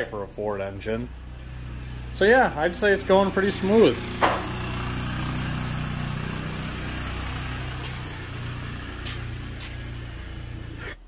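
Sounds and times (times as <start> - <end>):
motor humming steadily: 0.0 - 11.0.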